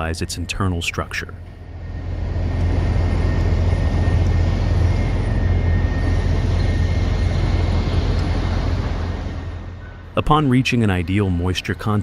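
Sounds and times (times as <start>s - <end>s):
heavy machinery rumbling: 1.4s - 11.2s.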